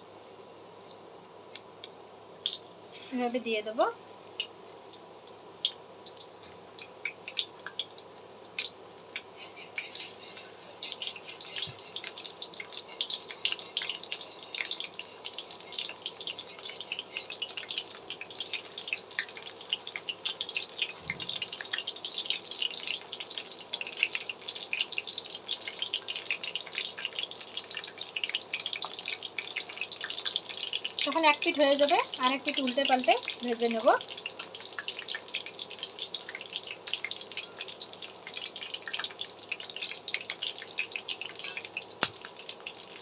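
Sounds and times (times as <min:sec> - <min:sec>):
battered food deep-frying in oil: 0:00.0 - 0:43.0.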